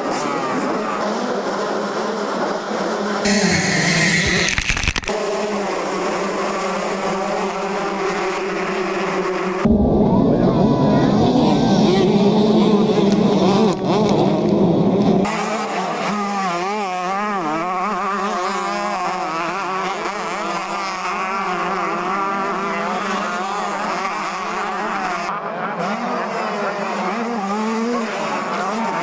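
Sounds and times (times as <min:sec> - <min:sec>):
motocross bikes revving: 0:00.0 - 0:09.7, 0:11.0 - 0:29.0.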